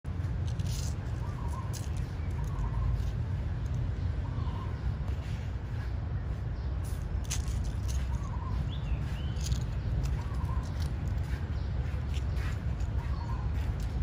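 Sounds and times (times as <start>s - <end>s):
steady low rumble: 0.0s - 14.0s
bird chirps: 0.5s - 14.0s.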